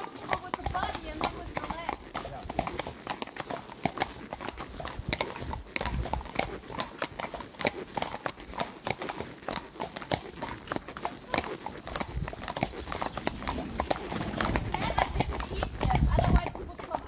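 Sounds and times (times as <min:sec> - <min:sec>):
horse hooves on pavement: 0:00.0 - 0:17.0.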